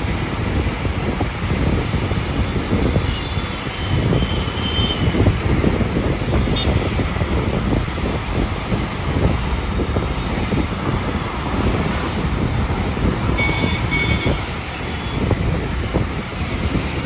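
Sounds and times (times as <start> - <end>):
bus rumbling: 0.0 - 17.0
road traffic: 0.0 - 17.0
wind buffeting microphone: 0.0 - 17.0.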